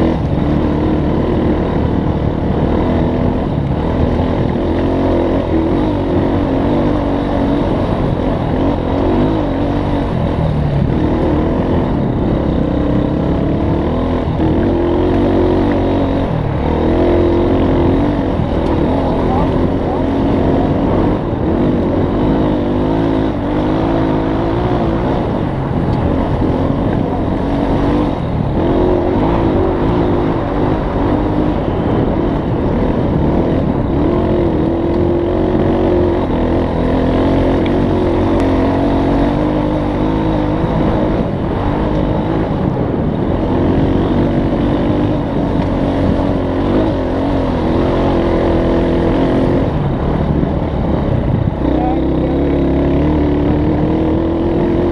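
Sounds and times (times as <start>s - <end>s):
vehicle engine revving: 0.0s - 54.9s.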